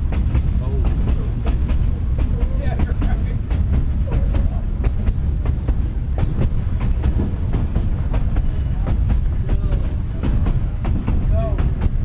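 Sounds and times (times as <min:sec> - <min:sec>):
train car rumbling on rails: 0:00.0 - 0:12.0
wheels clacking on track: 0:00.0 - 0:12.0.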